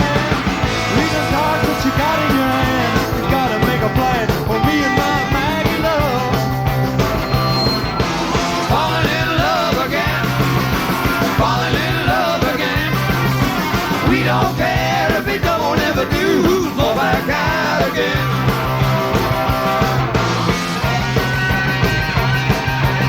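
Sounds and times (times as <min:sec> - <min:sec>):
drums: 0:00.0 - 0:23.0
electric bass: 0:00.0 - 0:23.0
lead electric guitar: 0:00.0 - 0:23.0.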